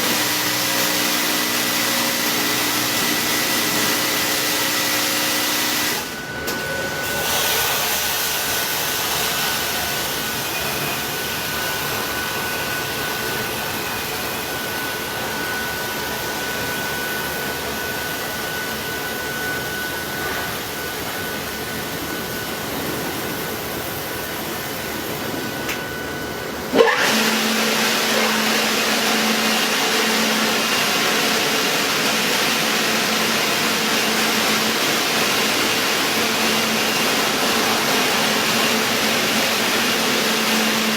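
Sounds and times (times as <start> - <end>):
machine whirring: 0.0 - 40.9.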